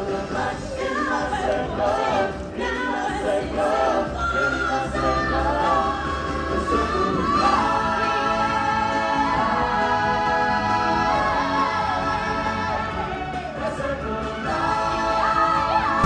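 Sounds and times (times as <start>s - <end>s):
group singing with instruments: 0.0s - 16.0s.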